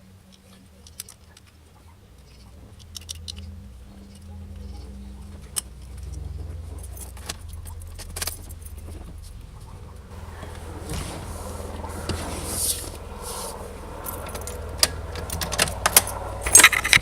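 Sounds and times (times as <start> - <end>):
steady low hum: 0.0 - 17.0
light metallic jingling: 2.2 - 17.0.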